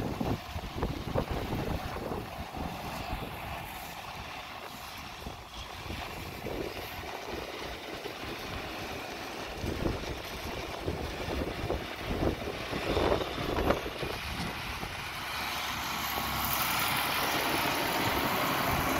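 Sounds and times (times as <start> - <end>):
tractor driving on gravel: 0.0 - 18.9.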